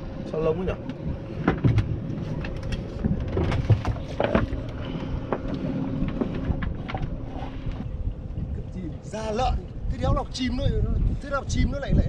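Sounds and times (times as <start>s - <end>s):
boat engine humming: 0.0s - 11.9s.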